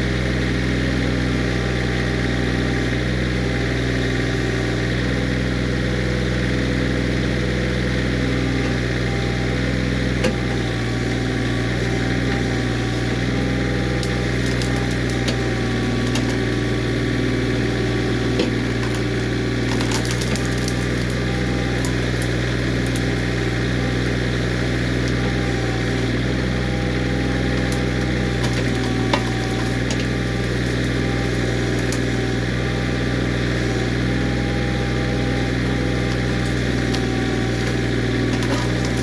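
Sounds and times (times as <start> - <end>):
hydraulics working: 0.0 - 39.0
tractor diesel engine running: 0.0 - 39.0.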